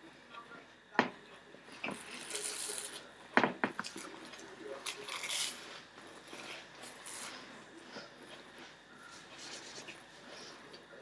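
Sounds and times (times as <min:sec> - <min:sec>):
muffled munching: 0:01.4 - 0:11.0.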